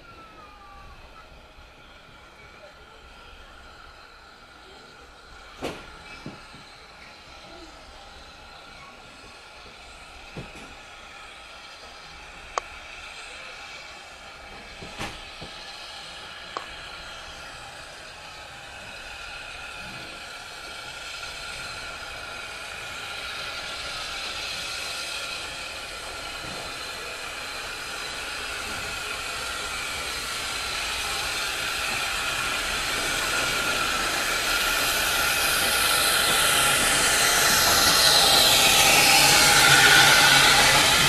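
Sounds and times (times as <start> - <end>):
steam locomotive hissing steam: 0.0 - 41.0.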